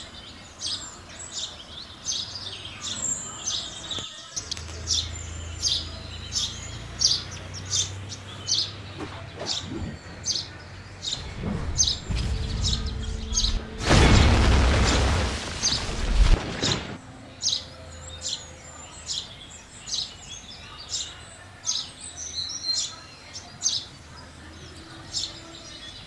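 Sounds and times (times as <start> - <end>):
sparrows chirping: 0.0 - 14.0, 16.6 - 26.0.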